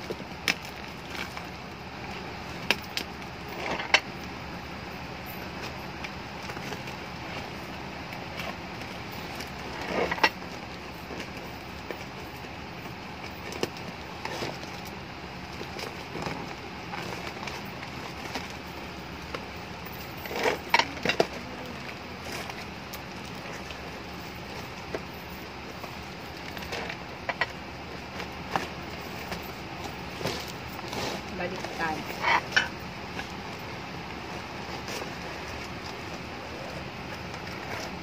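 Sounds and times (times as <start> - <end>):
steady background noise: 0.0 - 38.0
tape crackles: 0.0 - 38.0.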